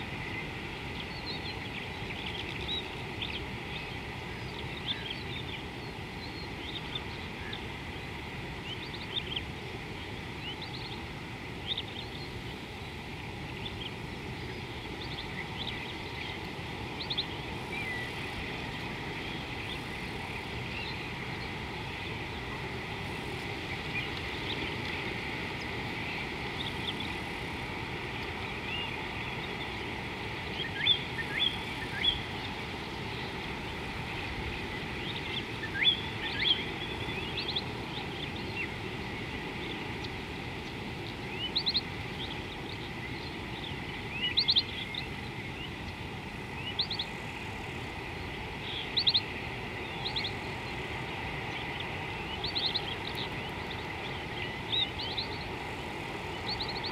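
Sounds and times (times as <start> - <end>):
river water rushing: 7.2 - 56.9.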